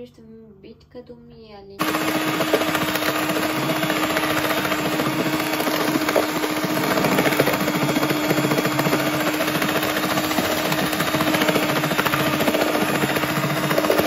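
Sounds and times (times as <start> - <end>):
electric hand mixer whisking batter: 1.8 - 14.0.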